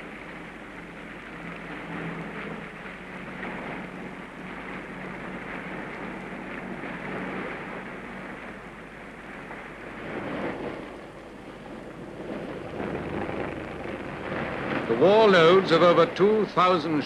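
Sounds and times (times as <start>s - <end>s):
boat engines rushing: 0.0s - 17.0s
sea water rushing: 0.0s - 17.0s.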